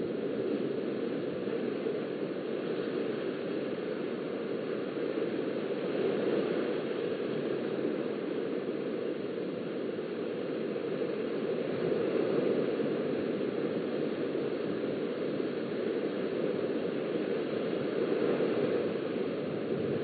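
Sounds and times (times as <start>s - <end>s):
small waves washing onto beach: 0.0s - 20.0s.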